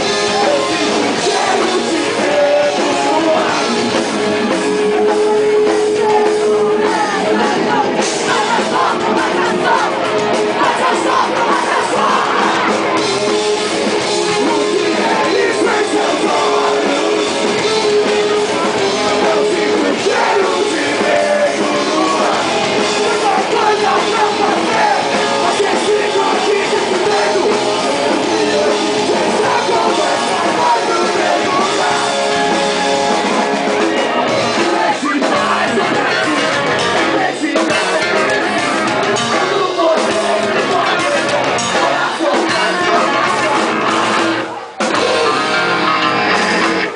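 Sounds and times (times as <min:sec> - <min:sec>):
distorted electric guitars: 0:00.0 - 0:46.9
drums: 0:00.0 - 0:46.9
shouted vocals: 0:00.0 - 0:46.9.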